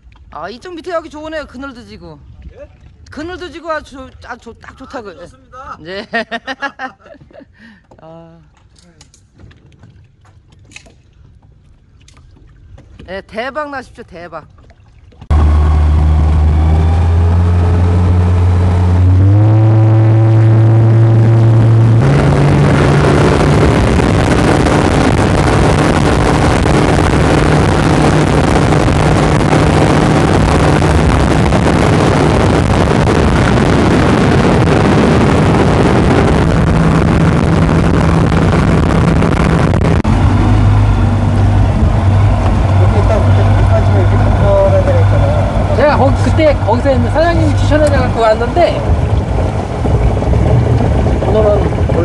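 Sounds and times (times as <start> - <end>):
water and wind rushing: 0.0 - 52.0
outboard motor running: 9.4 - 52.0.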